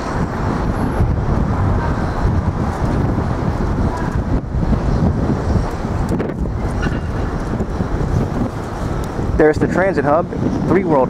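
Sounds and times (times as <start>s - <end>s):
passing traffic: 0.0s - 11.0s
wind rumbling on microphone: 0.0s - 11.0s.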